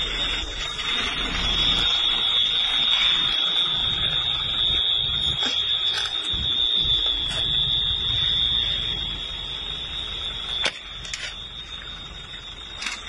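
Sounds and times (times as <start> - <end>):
high-pitched alarm tone: 0.0 - 13.0.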